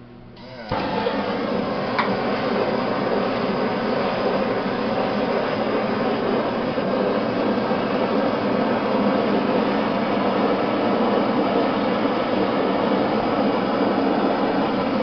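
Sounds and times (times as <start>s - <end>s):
gas torch hissing: 0.6s - 15.0s.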